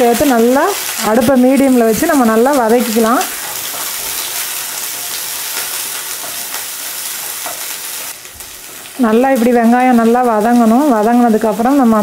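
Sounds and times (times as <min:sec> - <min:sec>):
shallots sizzling in oil: 0:00.0 - 0:12.0.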